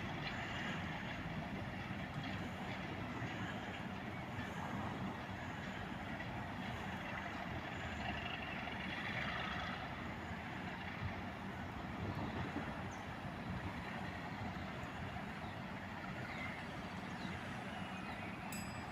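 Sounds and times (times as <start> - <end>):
diesel locomotive running: 0.0 - 18.9.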